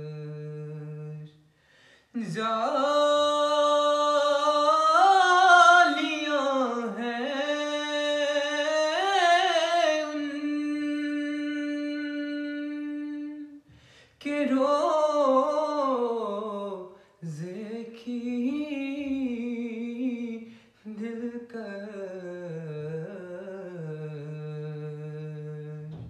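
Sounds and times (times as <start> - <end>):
man singing unaccompanied: 0.0 - 1.4, 2.1 - 26.0.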